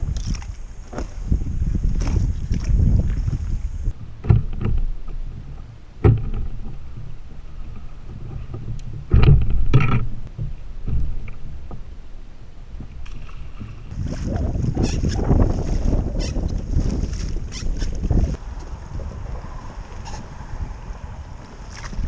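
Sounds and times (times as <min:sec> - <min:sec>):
water sloshing against kayak hull: 0:00.0 - 0:22.0.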